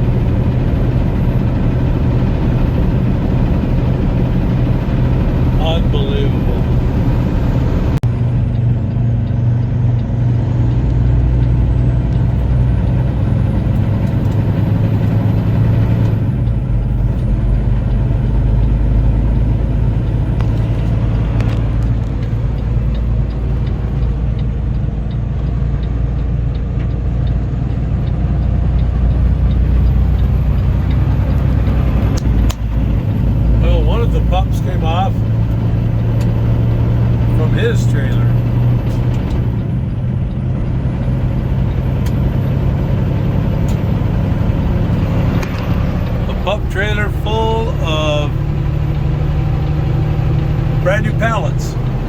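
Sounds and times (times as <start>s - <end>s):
diesel engine drone: 0.0s - 52.0s
road noise: 0.0s - 52.0s.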